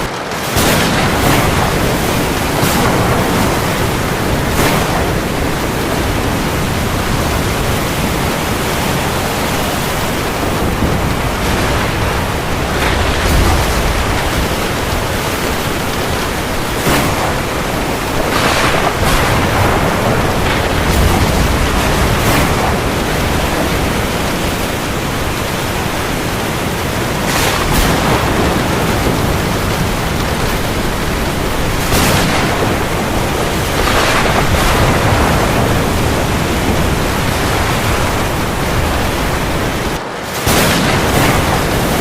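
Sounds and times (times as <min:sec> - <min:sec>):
heavy rain over sea: 0:00.0 - 0:42.0
waves surging: 0:00.0 - 0:42.0.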